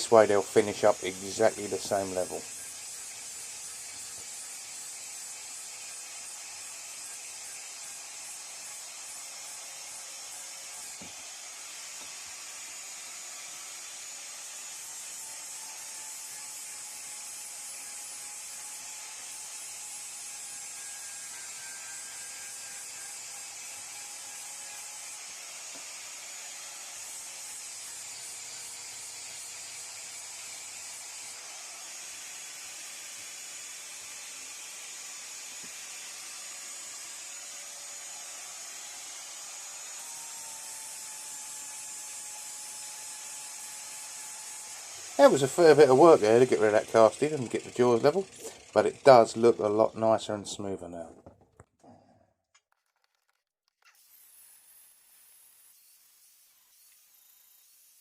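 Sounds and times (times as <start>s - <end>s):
power grinder grinding metal: 0.0s - 51.4s, 53.9s - 58.0s.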